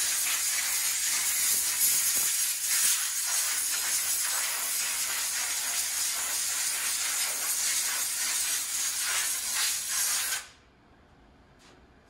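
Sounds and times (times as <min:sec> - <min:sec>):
spray gun hissing: 0:00.0 - 0:10.5.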